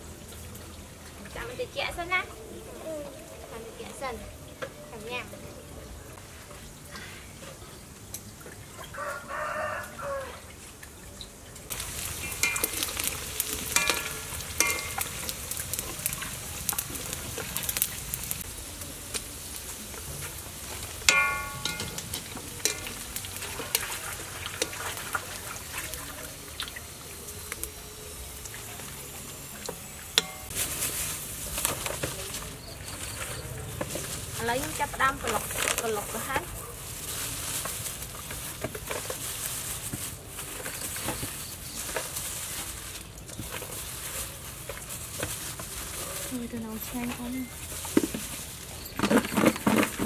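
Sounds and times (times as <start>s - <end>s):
food deep-frying in oil: 0.0s - 50.0s.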